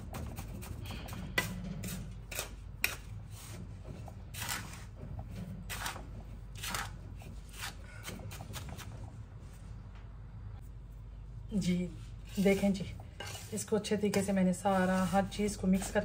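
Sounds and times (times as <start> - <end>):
wooden spoon scraping in pot: 0.0 - 9.0, 12.0 - 16.0.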